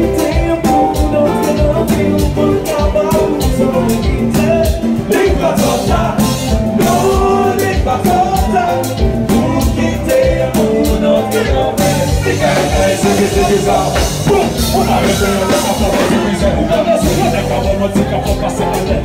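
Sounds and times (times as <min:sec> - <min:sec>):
band music: 0:00.0 - 0:19.0
lead vocal singing: 0:00.0 - 0:19.0
steady drum beat: 0:00.0 - 0:19.0.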